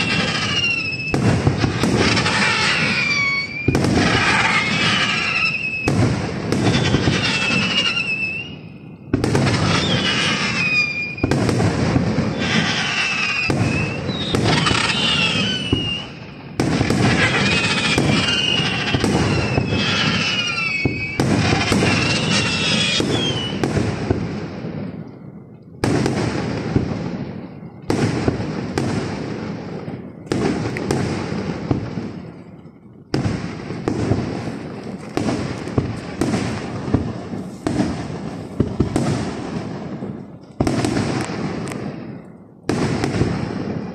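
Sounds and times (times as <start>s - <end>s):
fireworks bangs and crackling: 0.0s - 43.9s
fireworks whistling: 0.0s - 43.9s.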